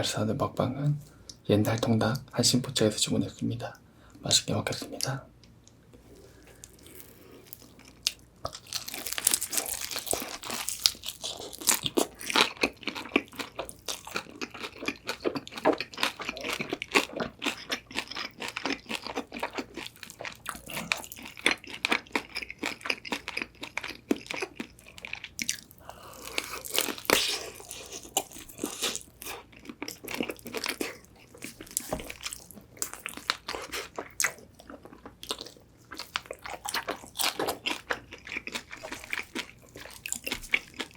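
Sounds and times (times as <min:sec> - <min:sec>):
crunching and chewing fried chicken: 0:06.0 - 0:40.9.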